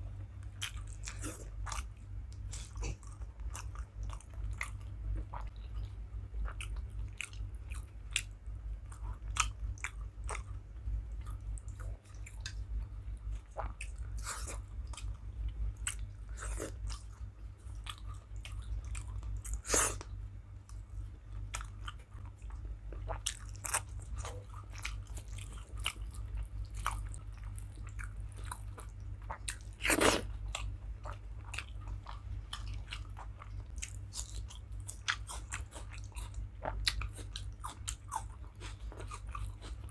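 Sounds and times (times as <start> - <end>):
steady low hum: 0.0 - 39.9
person chewing with wet smacks: 0.4 - 39.9.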